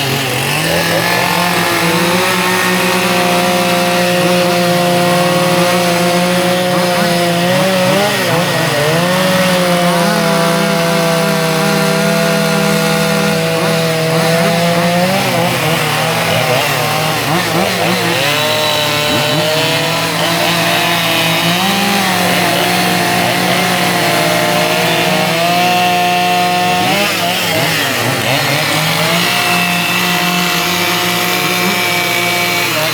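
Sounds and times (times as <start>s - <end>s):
chainsaw carving wood: 0.0s - 32.9s.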